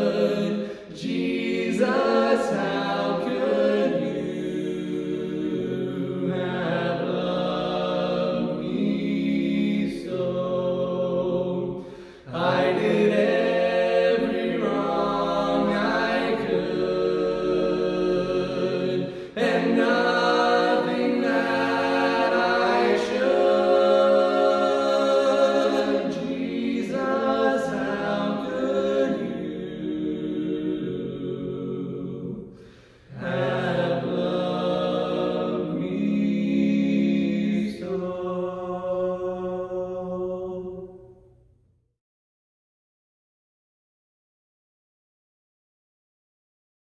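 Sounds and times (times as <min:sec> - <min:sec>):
people singing in harmony: 0:00.0 - 0:41.3.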